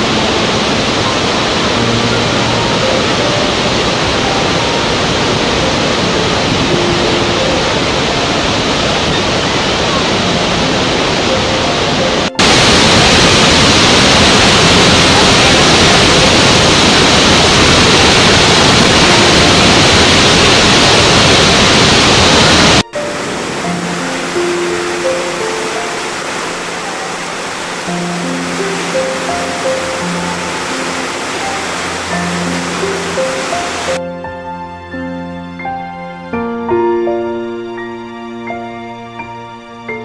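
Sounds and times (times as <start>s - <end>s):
waterfall rushing: 0.0s - 34.7s.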